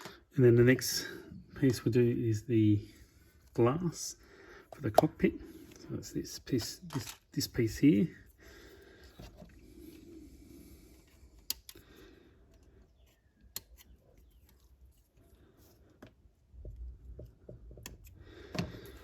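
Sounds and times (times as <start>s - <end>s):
faint handling noise: 1.4s - 19.0s.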